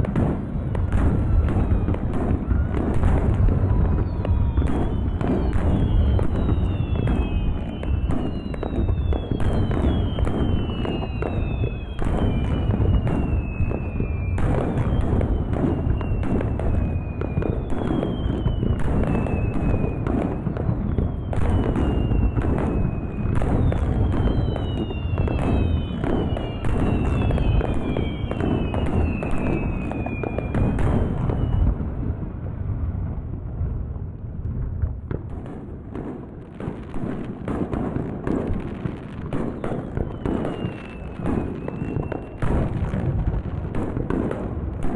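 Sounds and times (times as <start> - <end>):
falling firework whistles: 0.0 - 32.0, 35.3 - 44.9
fireworks bangs and crackles: 0.0 - 44.9.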